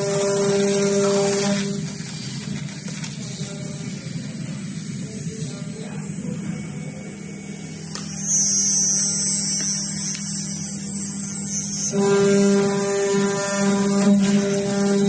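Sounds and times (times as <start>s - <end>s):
high-pitched cutting whine and hiss: 0.0s - 15.0s
machine low hum: 0.0s - 15.0s.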